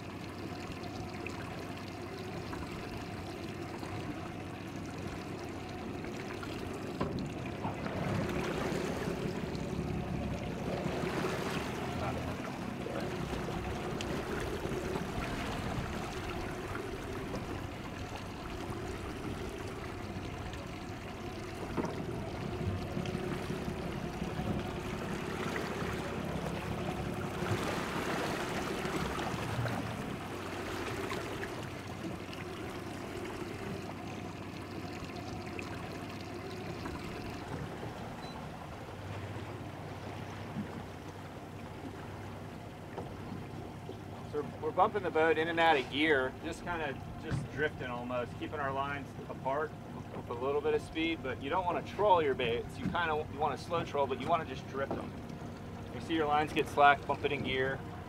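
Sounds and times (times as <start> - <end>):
outboard motor idling: 0.0 - 58.0
water splashing along boat hull: 0.0 - 58.0.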